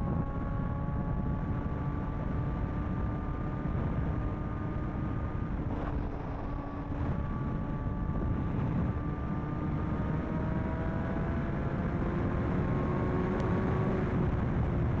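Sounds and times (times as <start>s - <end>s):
sport motorcycle engine running: 0.0s - 15.0s
wind noise on microphone: 0.0s - 15.0s.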